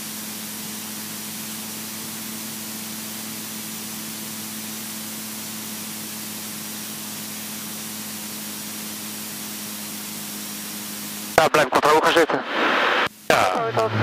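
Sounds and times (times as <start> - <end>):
aircraft cockpit hiss and hum: 0.0 - 14.0.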